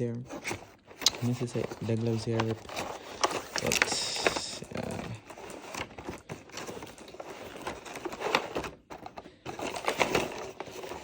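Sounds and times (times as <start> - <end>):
box and packaging rustling: 0.0 - 11.0.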